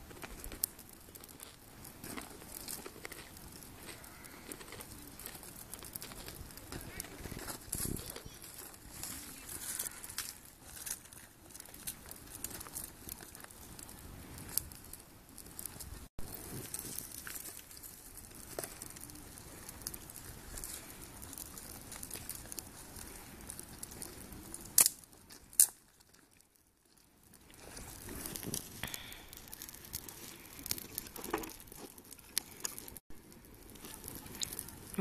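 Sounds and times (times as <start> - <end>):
fire pops: 0.0 - 35.0
wood fire crackling: 0.0 - 35.0.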